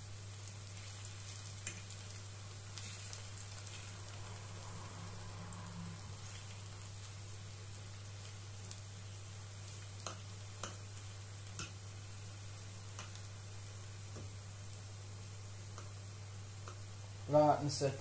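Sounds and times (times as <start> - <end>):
plantain slices sizzling in pan: 0.0 - 18.0.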